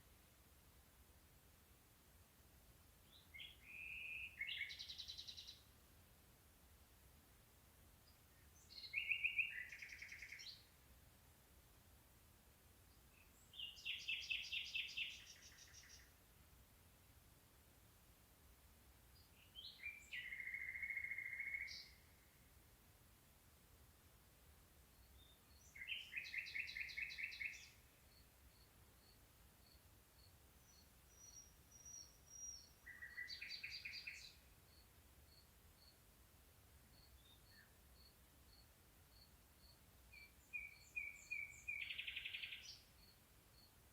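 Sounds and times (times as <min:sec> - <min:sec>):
songbird singing: 0:02.7 - 0:06.2, 0:07.8 - 0:11.0, 0:12.3 - 0:43.9.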